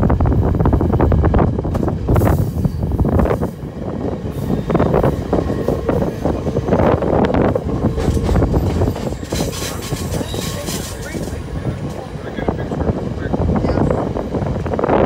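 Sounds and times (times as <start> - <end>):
train rattling and clacking: 0.0 - 15.0
train wheels rumbling on rails: 0.0 - 15.0.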